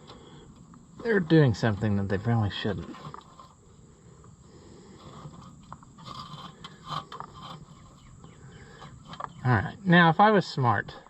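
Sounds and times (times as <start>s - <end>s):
scraping and crunching rust: 0.0s - 11.0s.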